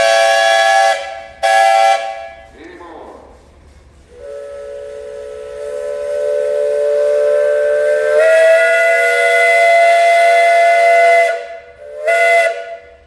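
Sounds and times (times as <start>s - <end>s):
steam whistle blowing: 0.0s - 2.5s, 4.1s - 13.0s.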